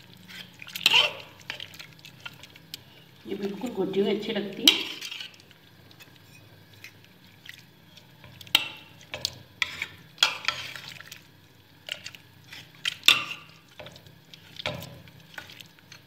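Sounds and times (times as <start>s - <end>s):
wet mashing of vegetables: 0.0s - 16.0s.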